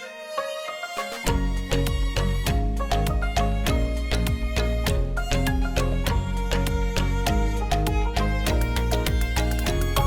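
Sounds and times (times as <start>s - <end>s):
background music with drum beat: 1.3s - 10.0s.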